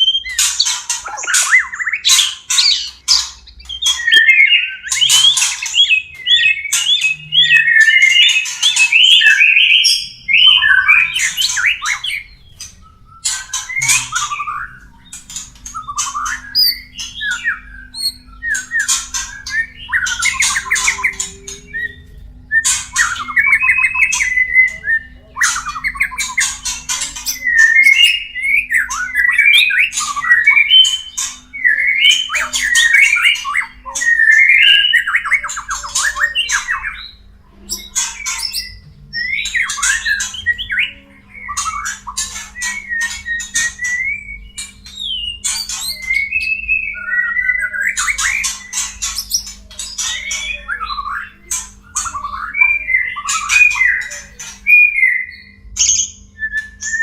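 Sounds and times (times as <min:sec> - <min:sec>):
birds whistling and rasping: 0:00.0 - 0:57.0.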